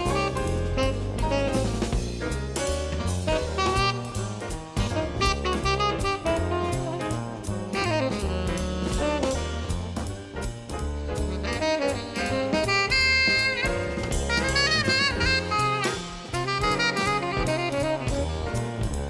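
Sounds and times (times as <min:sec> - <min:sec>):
tenor saxophone melody: 0:00.0 - 0:02.1, 0:03.0 - 0:10.0, 0:11.2 - 0:19.0
double bass: 0:00.0 - 0:19.0
drum kit with cymbals: 0:00.0 - 0:19.0.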